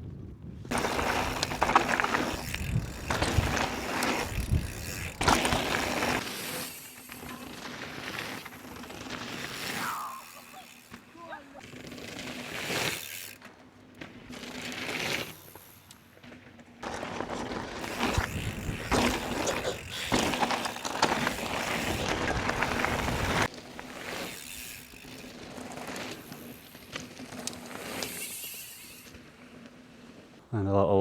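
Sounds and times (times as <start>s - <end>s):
bike tyres on dirt: 0.0s - 30.5s
bike rattles: 0.6s - 30.4s.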